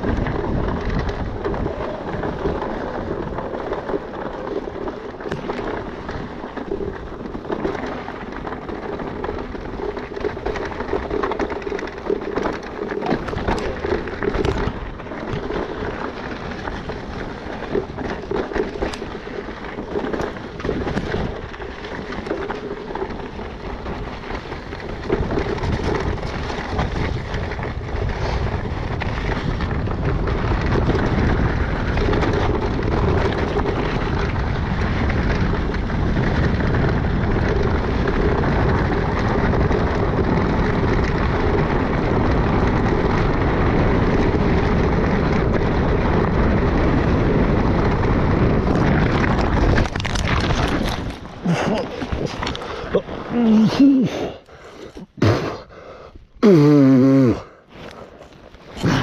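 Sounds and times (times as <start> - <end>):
tyres crunching over stones: 0.0 - 41.4, 45.7 - 55.3, 57.2 - 59.0
bike rattling and knocking: 0.0 - 55.2
wind rumble on microphone: 0.0 - 59.0.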